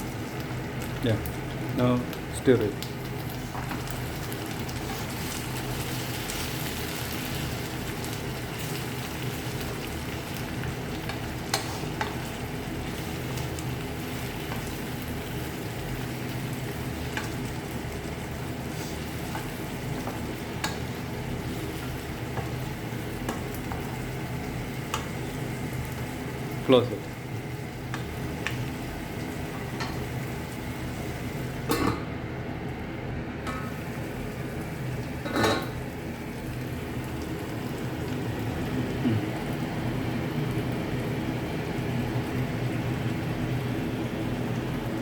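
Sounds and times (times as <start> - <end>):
food sizzling in a frying pan: 0.0 - 45.0.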